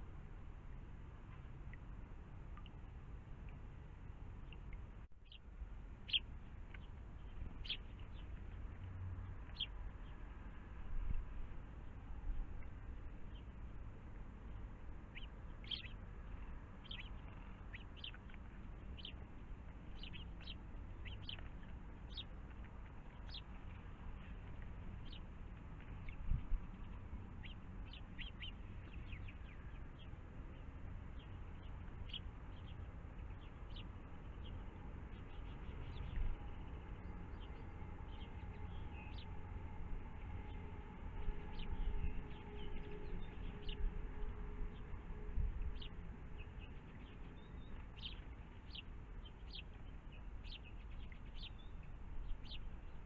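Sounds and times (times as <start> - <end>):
steady low rumble: 0.0 - 53.0
small birds chirping: 4.4 - 10.8, 11.4 - 53.0.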